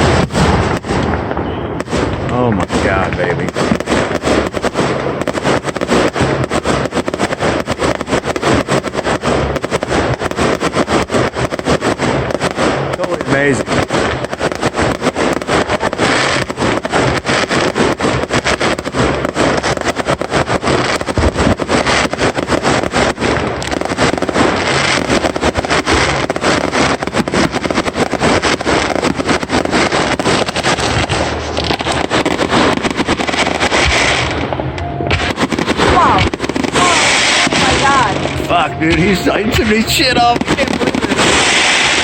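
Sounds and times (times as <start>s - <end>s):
fireworks crackling bangs: 0.0s - 42.0s.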